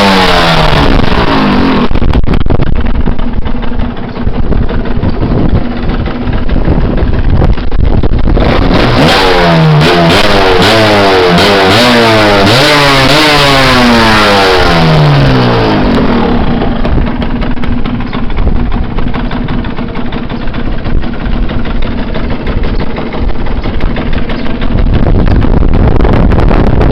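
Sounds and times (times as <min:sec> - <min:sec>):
two-stroke motorcycle engine revving: 0:00.0 - 0:26.9.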